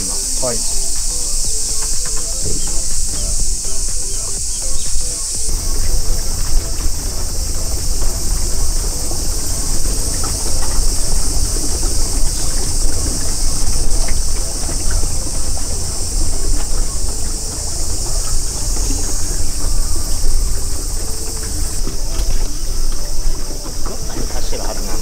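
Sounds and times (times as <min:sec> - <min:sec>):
high-pitched insect chorus: 0:00.0 - 0:25.0
wind buffeting microphone: 0:00.0 - 0:25.0.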